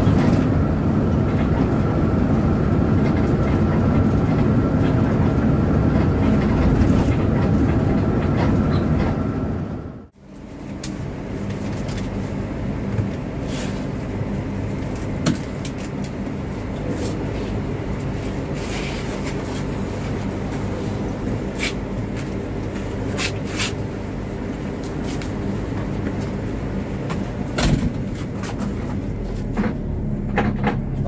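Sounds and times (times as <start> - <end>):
diesel engine running: 0.0 - 31.0
road noise: 0.0 - 31.0.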